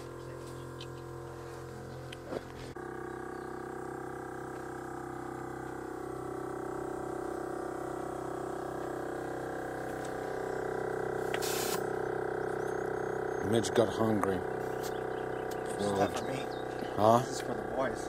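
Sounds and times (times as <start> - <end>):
air compressor humming: 0.0 - 18.0.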